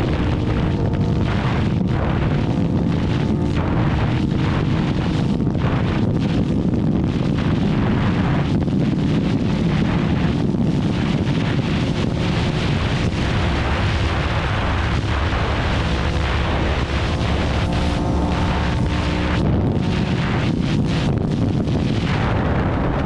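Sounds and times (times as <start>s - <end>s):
motorcycle engine running: 0.0s - 23.0s
wind buffeting microphone: 0.0s - 23.0s.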